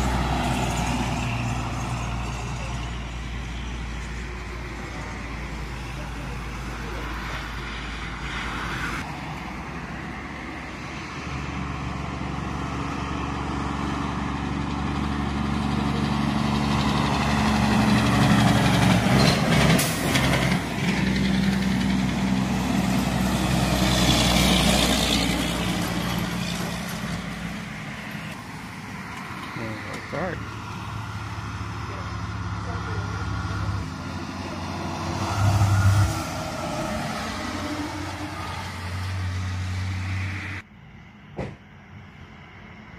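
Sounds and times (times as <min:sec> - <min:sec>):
diesel truck passing by: 0:00.0 - 0:42.9.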